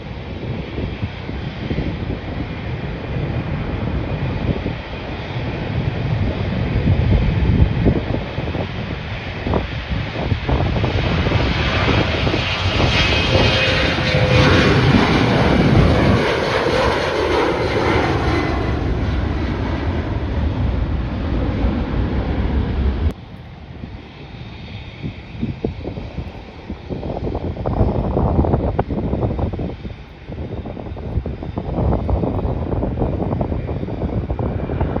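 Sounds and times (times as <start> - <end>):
airliner engines passing: 0.0 - 35.0.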